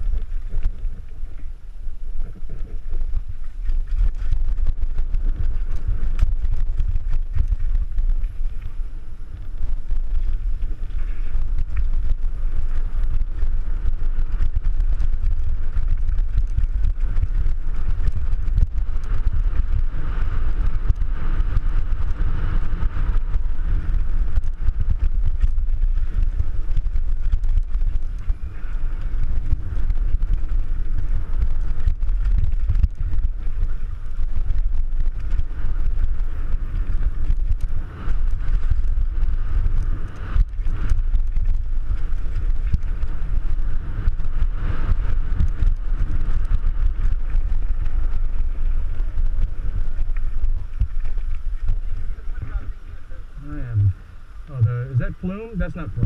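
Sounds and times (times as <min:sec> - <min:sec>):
bike rattling over stones: 0:00.0 - 0:52.2
wind buffeting microphone: 0:00.0 - 0:56.0.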